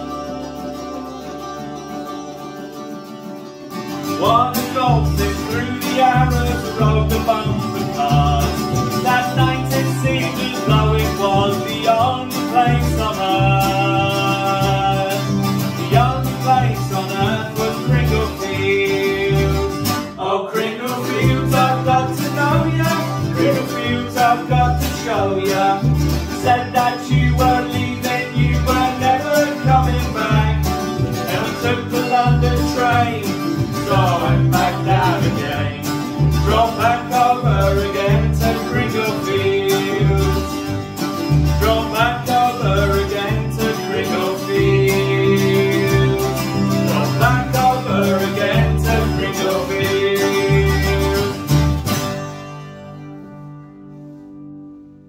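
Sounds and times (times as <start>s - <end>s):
picked mandolin: 0.0s - 55.0s
plucked double bass: 0.0s - 55.0s
strummed acoustic guitar: 0.0s - 55.0s.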